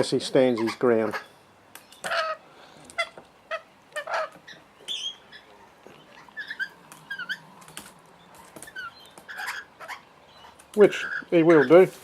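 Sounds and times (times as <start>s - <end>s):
parrots squeaky chirps: 0.0s - 12.0s.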